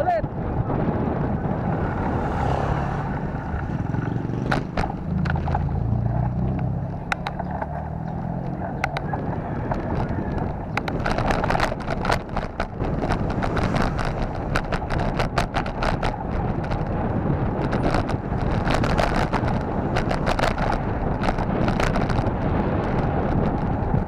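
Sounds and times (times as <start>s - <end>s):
wind rushing over microphone: 0.0s - 24.0s
bike rattling clicks: 1.2s - 24.0s.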